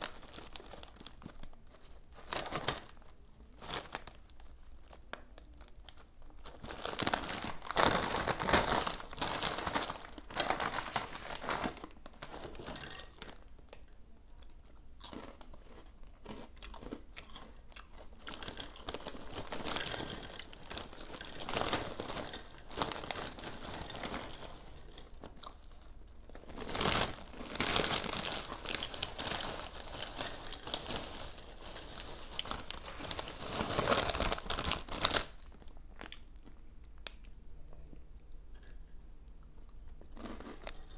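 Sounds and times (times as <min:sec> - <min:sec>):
plastic snack bags crinkling: 0:00.0 - 0:37.2, 0:39.7 - 0:40.9.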